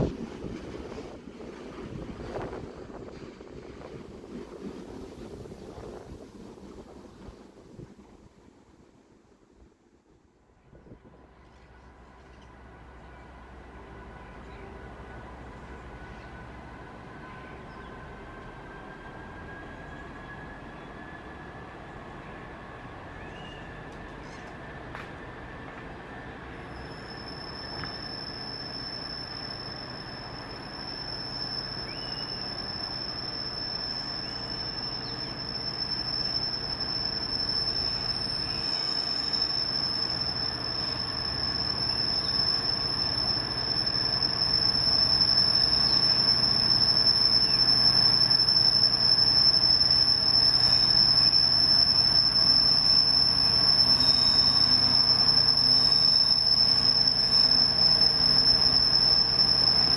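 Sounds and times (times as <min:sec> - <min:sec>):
diesel locomotive approaching: 0:00.0 - 0:59.9.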